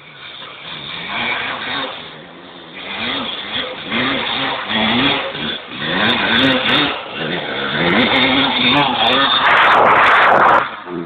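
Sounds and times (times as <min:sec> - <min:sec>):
motocross bike engine revving: 0:00.0 - 0:09.4.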